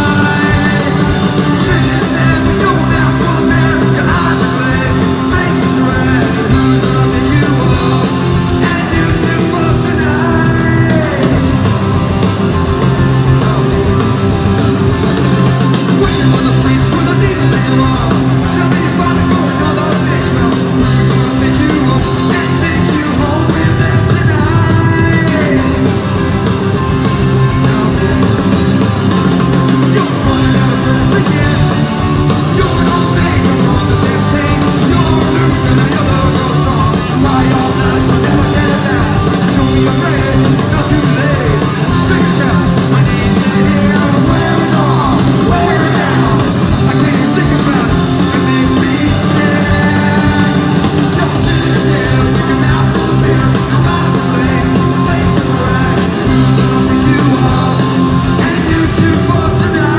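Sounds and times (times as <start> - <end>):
singer shouting vocals: 0.0 - 11.6, 15.8 - 25.9, 29.8 - 59.9
bass guitar: 0.0 - 59.9
distorted electric guitar: 0.0 - 59.9
drums: 0.0 - 59.9.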